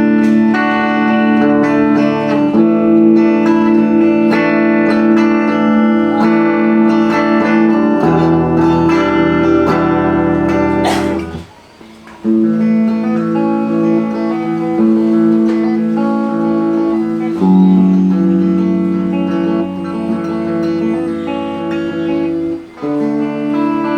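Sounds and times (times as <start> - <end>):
electric guitar chords ringing: 0.0 - 23.9.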